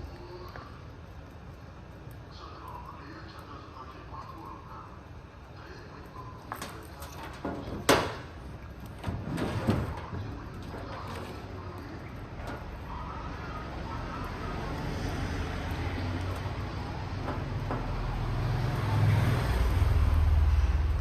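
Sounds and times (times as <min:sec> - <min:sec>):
low engine-like rumble: 0:00.0 - 0:21.0.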